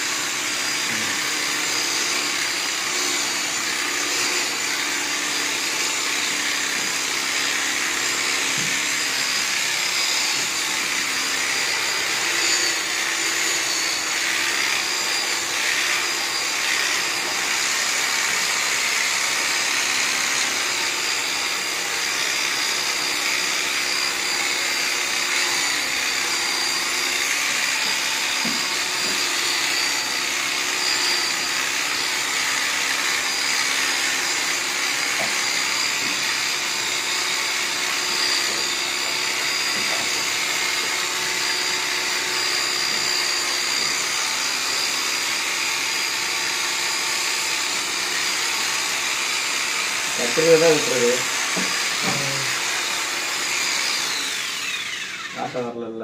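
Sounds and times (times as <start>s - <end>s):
electric shearing clipper running: 0.0s - 56.0s.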